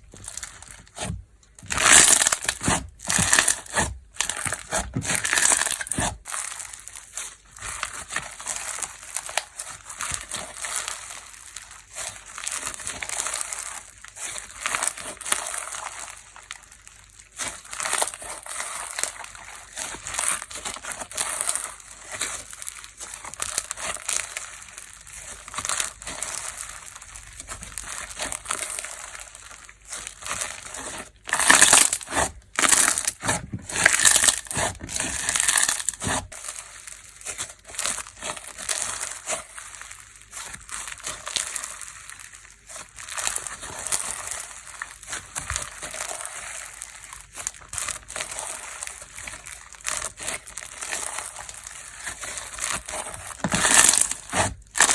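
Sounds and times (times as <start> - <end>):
slime crackling and popping: 0.0 - 54.9
slime squished by hand: 0.0 - 54.9.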